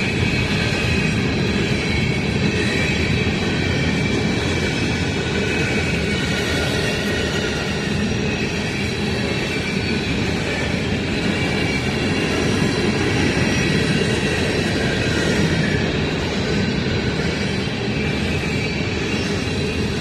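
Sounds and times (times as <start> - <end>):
freight train wheels rattling: 0.0 - 20.0.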